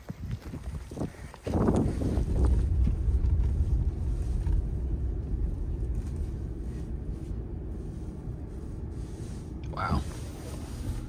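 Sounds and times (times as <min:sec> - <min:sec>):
truck rumbling on the move: 0:00.6 - 0:11.0.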